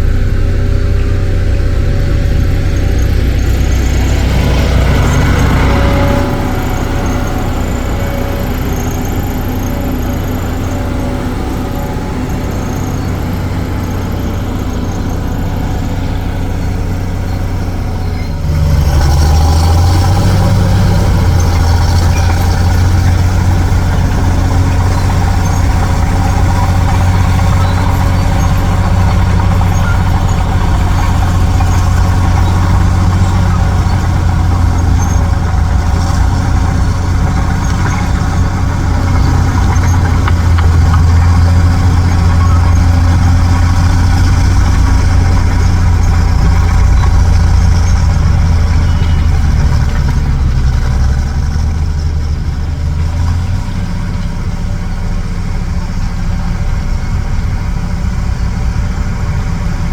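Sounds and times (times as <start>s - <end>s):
dump truck diesel engine: 0.0s - 59.9s.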